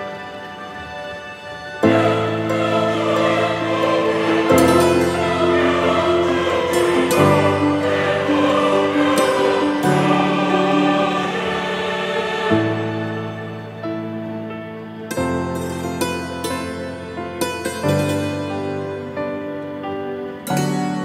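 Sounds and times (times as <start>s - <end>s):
slow choir-like chords: 0.0s - 21.0s.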